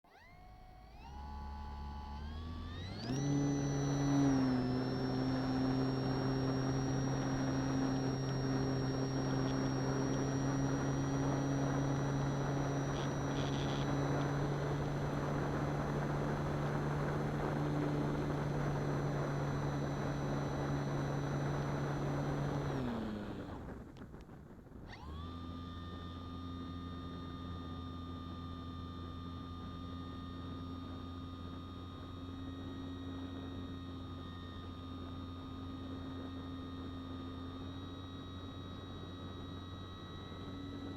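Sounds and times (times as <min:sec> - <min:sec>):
electric motor and propeller whine: 0:00.0 - 0:40.9
quieter steady hum: 0:00.0 - 0:40.9.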